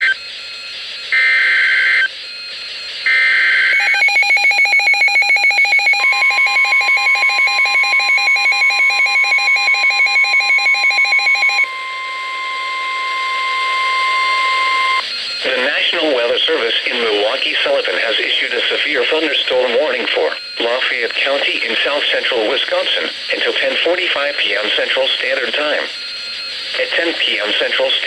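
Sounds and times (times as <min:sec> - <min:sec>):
steady warning tone: 0:00.0 - 0:28.0.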